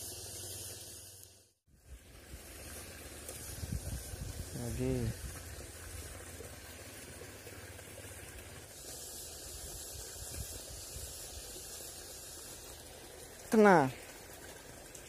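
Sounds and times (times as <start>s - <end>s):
flowing creek water: 0.0s - 15.0s.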